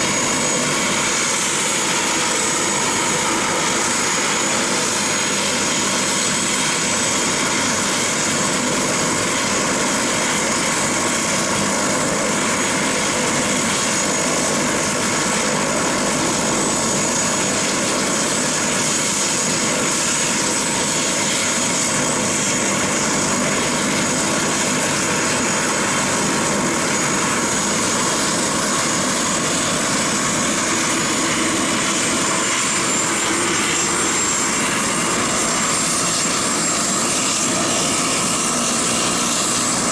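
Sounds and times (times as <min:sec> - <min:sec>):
aircraft engine whining: 0:00.0 - 0:39.9.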